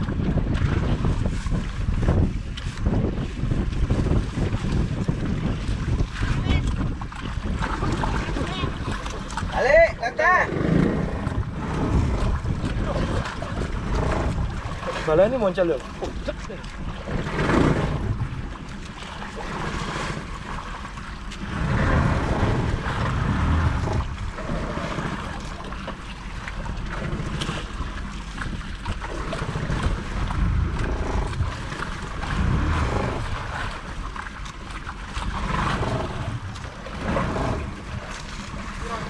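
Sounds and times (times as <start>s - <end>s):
water slapping against boat hull: 0.0s - 39.0s
wind buffeting microphone: 0.0s - 39.0s.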